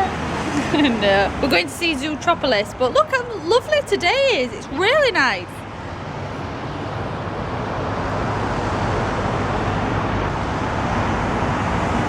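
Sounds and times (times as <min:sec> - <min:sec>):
outdoor rush with low rumble: 0:00.0 - 0:12.0.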